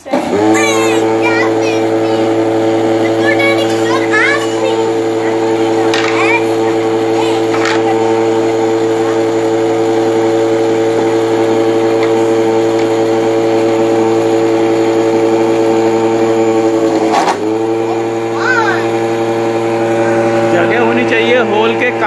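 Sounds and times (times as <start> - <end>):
electric motor whining: 0.0 - 22.0
motor knock: 0.0 - 22.0.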